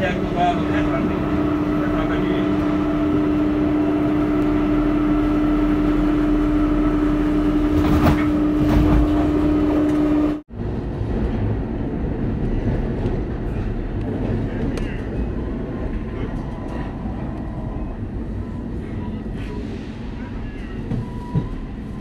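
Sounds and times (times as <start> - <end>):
rough train rumble: 0.0 - 22.0
train hum and rumble: 0.0 - 22.0.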